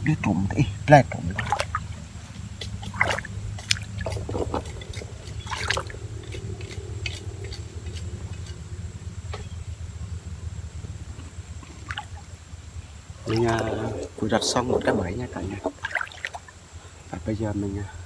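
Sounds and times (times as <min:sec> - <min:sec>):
steady low rumble: 0:00.0 - 0:18.0
water splashing and sloshing: 0:00.9 - 0:09.6, 0:11.0 - 0:17.2.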